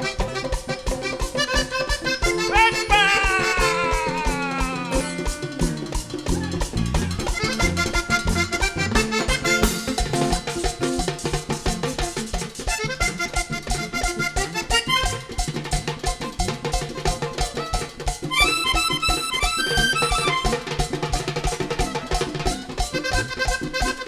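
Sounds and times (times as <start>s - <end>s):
accordion playing quick notes: 0.0s - 11.2s, 12.6s - 24.0s
drums and hand percussion: 0.0s - 24.0s.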